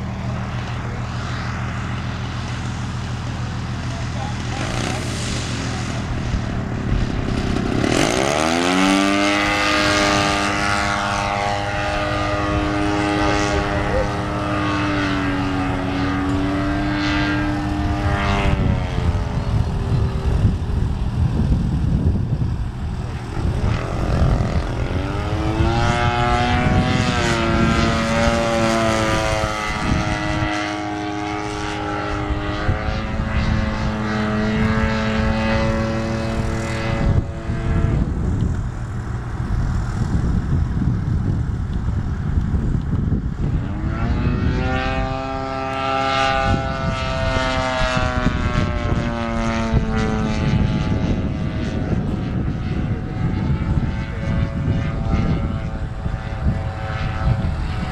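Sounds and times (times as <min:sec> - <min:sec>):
model plane engine in flight: 0:00.0 - 0:57.9.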